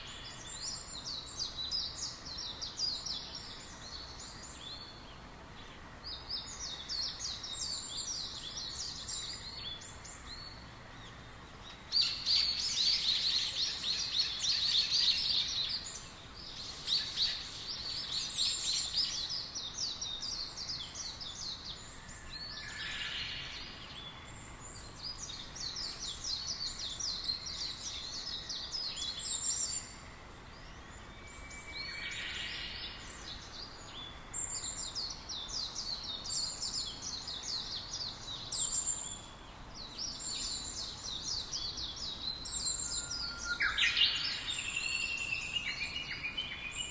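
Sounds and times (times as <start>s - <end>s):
faint background hiss: 0.0s - 46.9s
songbirds twittering: 0.0s - 46.9s.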